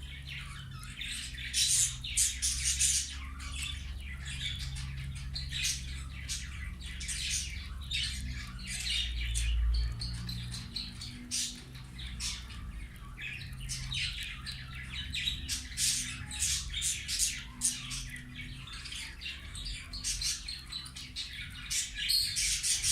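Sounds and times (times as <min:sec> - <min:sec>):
budgerigars chattering: 0:00.0 - 0:22.9
steady low hum: 0:00.0 - 0:22.9.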